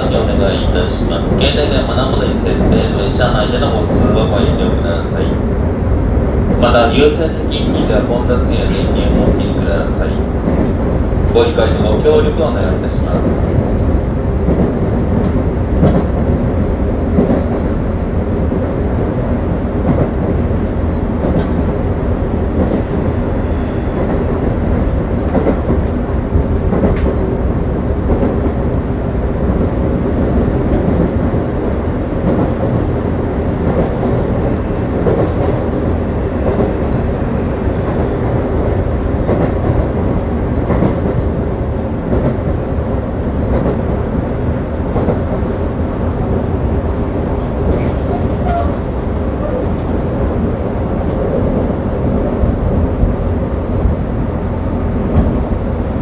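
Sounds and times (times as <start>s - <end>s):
electric train running on rails: 0.0s - 56.0s.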